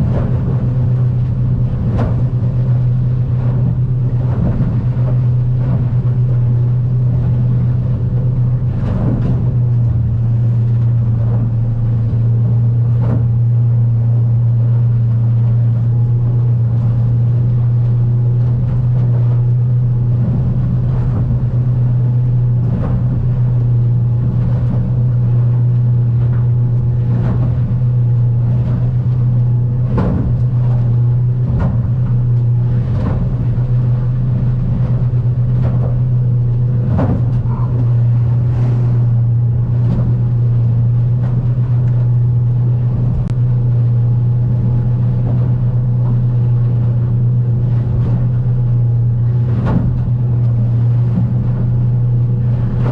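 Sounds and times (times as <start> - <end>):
hull thumping on swells: 0.0 - 52.9
outboard motor drone: 0.0 - 52.9.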